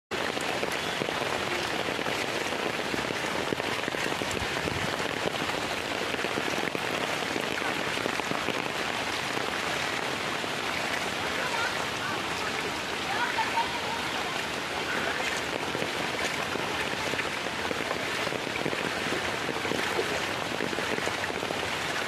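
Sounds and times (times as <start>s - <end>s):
heavy rain on water: 0.1s - 22.0s.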